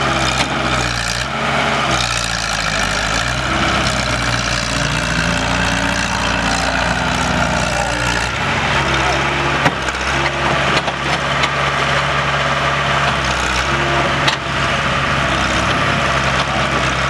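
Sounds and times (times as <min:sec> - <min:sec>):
heavy diesel engines running: 0:00.0 - 0:17.0.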